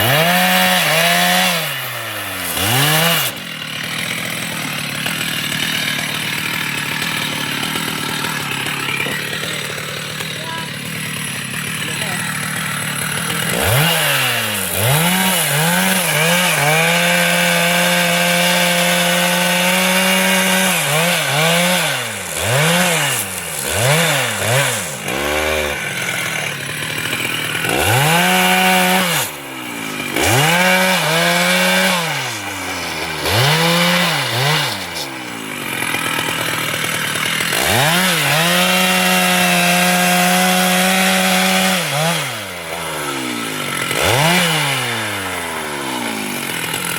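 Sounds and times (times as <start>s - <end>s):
chainsaw engine revving: 0.0s - 46.9s.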